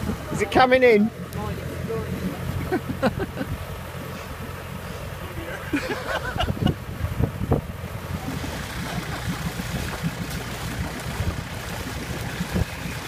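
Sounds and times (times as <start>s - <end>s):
wind buffeting microphone: 0.0s - 5.2s, 6.0s - 13.0s
vehicle engine rumble: 0.0s - 13.0s
water sloshing: 0.0s - 13.0s.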